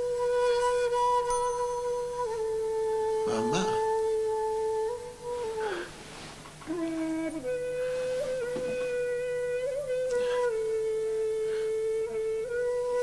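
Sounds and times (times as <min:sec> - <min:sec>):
flute playing long notes: 0:00.0 - 0:13.0.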